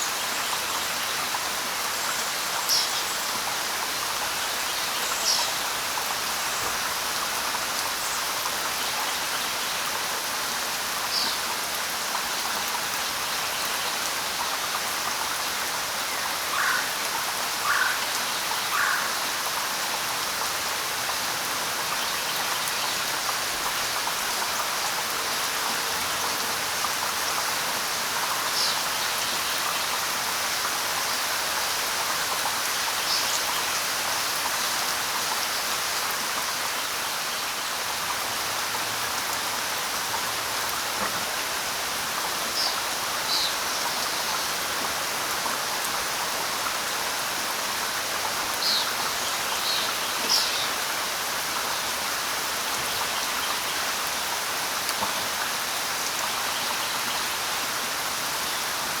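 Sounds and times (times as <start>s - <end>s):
light rain: 0.0s - 59.0s.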